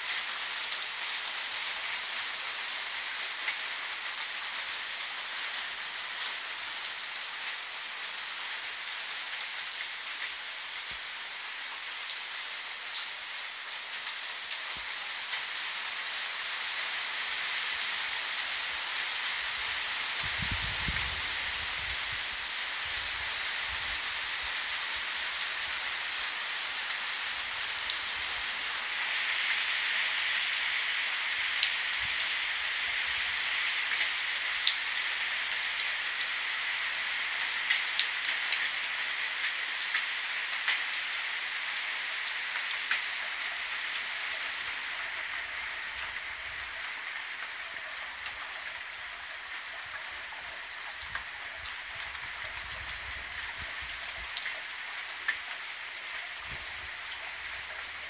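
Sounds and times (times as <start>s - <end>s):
steady rain hiss: 0.0s - 58.0s
raindrops ticking on surfaces: 0.1s - 58.0s.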